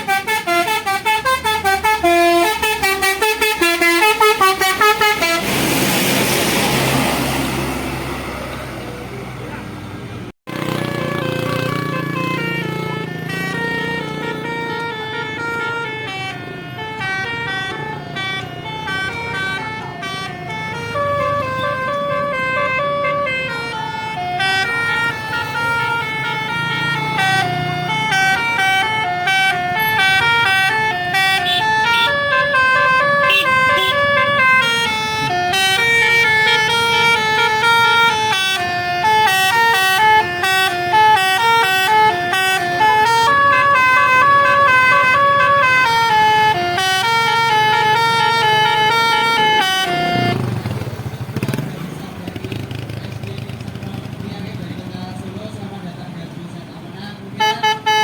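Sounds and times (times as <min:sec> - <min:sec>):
musical air horn playing a tune: 0:00.0 - 0:07.3, 0:10.8 - 0:50.6
bus engine running: 0:00.0 - 0:58.0.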